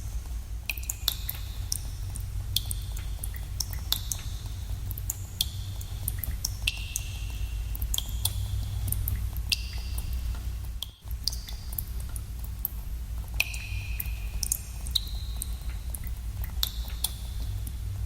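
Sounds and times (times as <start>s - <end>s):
water drops plinking in cave: 0.6s - 17.8s.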